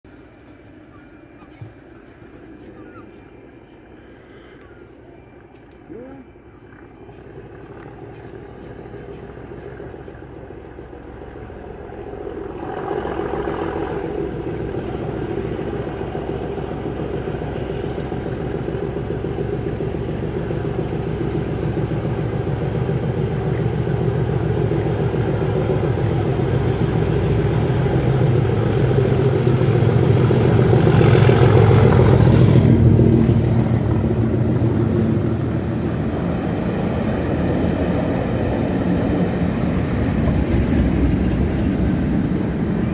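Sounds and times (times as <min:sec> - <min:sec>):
diesel locomotive engine running hard: 0:00.0 - 0:42.9
coaches rolling past: 0:00.1 - 0:42.9.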